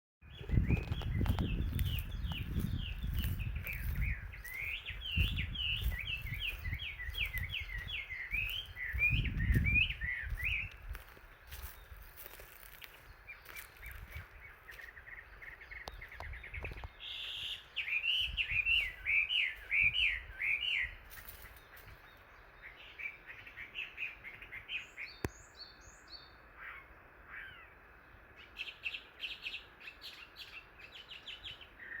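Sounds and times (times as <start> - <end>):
wild birds singing and calling: 0.2 - 32.0.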